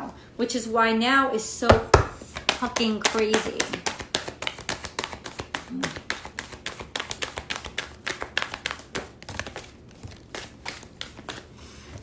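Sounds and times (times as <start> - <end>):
cards being shuffled: 2.2 - 12.0.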